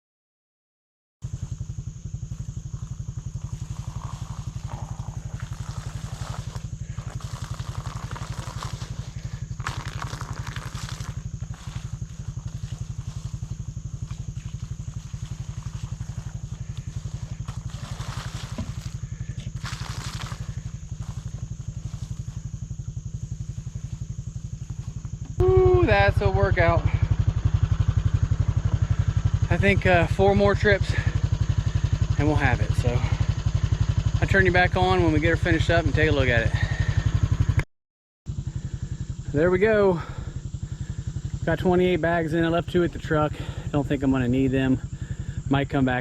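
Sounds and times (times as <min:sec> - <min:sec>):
atv engine idling: 0:01.2 - 0:37.6, 0:38.3 - 0:46.0.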